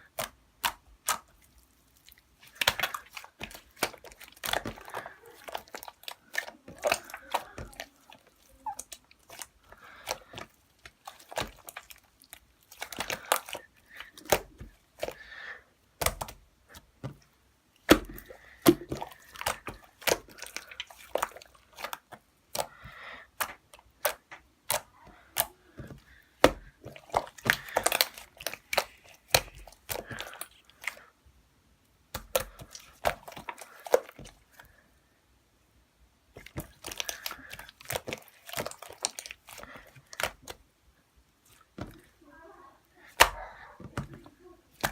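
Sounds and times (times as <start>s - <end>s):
slime popping and crackling: 0.0s - 15.3s, 16.0s - 17.2s, 17.8s - 31.0s, 32.1s - 34.5s, 36.4s - 40.6s, 43.1s - 44.2s.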